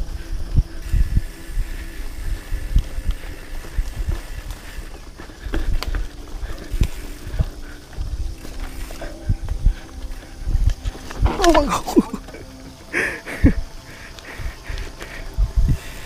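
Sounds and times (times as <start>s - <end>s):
wind on microphone: 0.0s - 12.4s, 13.2s - 16.0s.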